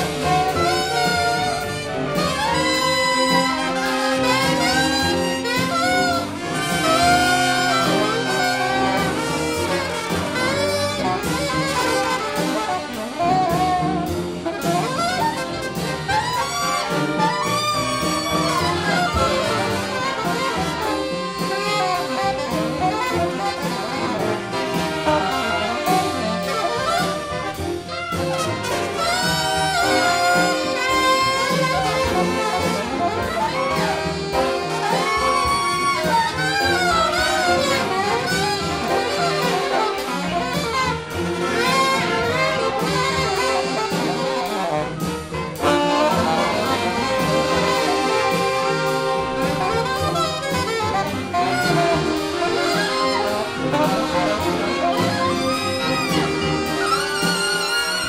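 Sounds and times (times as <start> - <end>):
jazzy brass music: 0.0 - 58.0.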